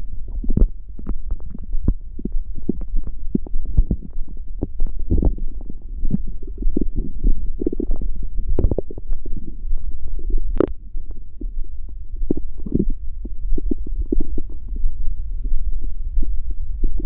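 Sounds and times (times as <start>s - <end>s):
stomach growling and gurgling: 0.0s - 17.0s.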